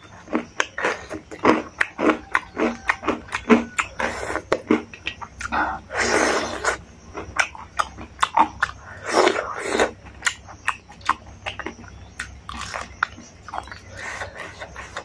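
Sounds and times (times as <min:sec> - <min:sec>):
chewing and biting food: 0:00.0 - 0:15.0
mouth clicks: 0:00.2 - 0:15.0.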